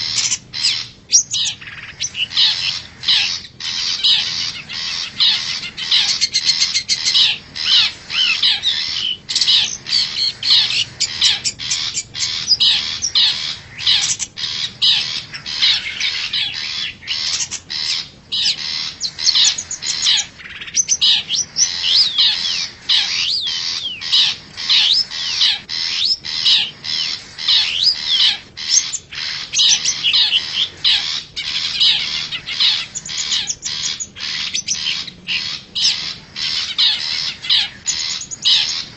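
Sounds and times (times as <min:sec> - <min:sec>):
shrike harsh chattering calls: 0:00.0 - 0:38.9.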